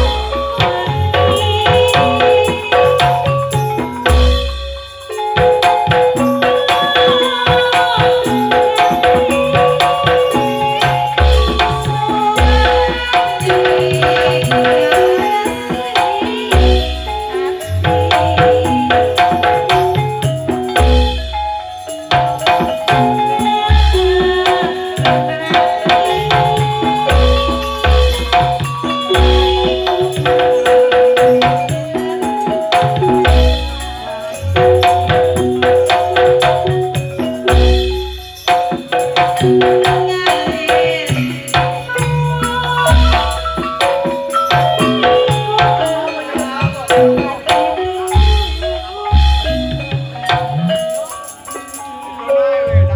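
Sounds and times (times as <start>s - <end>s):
fast hand-drum strokes: 0.0s - 52.2s
gamelan metallophone notes: 0.0s - 52.9s
sustained pitched melody: 0.0s - 52.9s.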